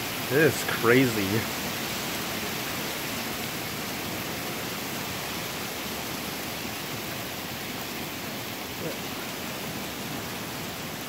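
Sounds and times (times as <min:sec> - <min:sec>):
sleet and rain on pavement: 0:00.0 - 0:11.0.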